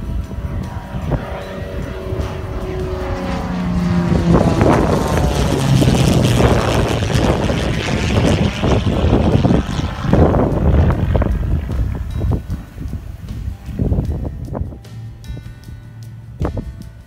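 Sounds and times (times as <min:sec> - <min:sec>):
propeller plane passing overhead: 0:00.0 - 0:17.0.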